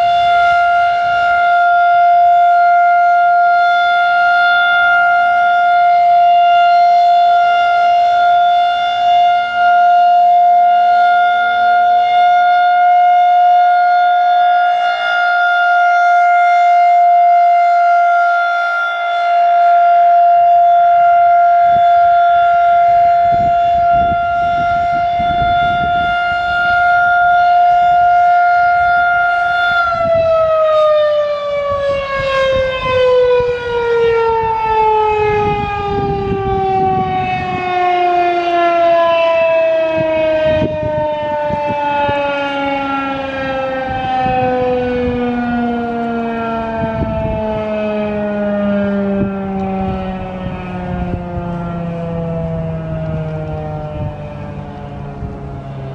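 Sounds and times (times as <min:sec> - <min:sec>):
warning siren: 0:00.0 - 0:55.9.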